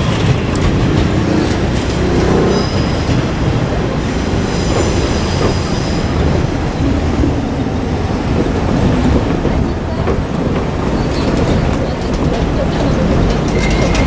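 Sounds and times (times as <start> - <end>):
diesel railcar rumbling: 0.0 - 14.0.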